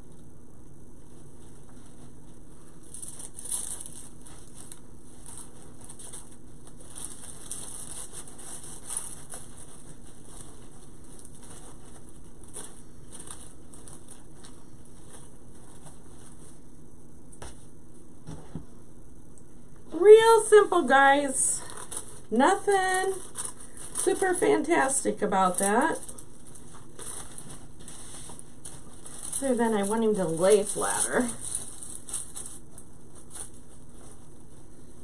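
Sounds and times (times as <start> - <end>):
steady low hum: 0.0 - 35.0
ribbon and pine needles rustling: 0.9 - 16.7, 20.0 - 35.0.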